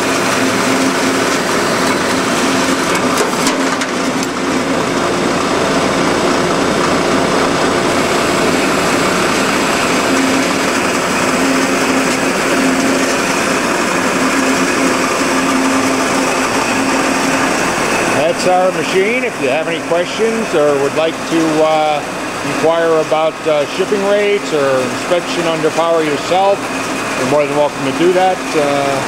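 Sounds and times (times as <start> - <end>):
band saw cutting metal: 0.0 - 29.0.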